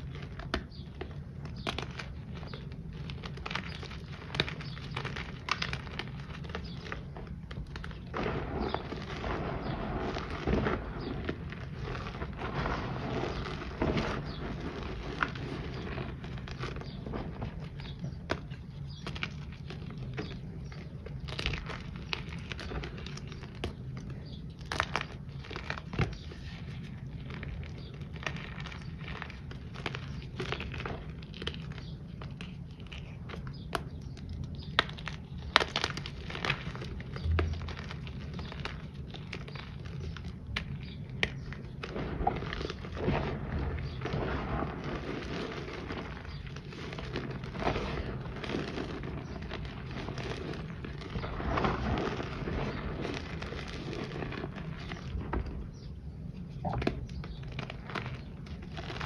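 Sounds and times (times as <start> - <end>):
hands crushing powder chunks: 0.0 - 59.0.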